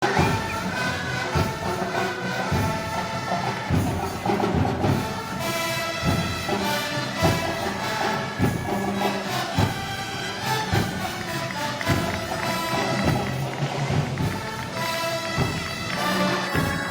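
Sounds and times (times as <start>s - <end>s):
slow heavy drum beat: 0.0s - 16.9s
wind band melody: 0.0s - 16.9s.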